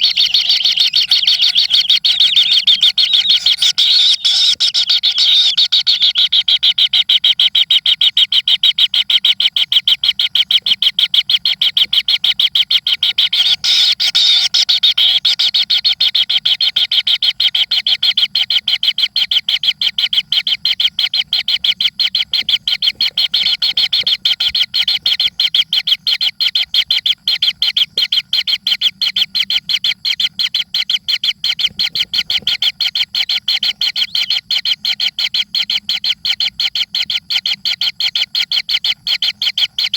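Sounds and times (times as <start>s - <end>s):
nestling birds begging calls: 0.0s - 8.5s, 9.4s - 29.6s, 30.3s - 36.3s.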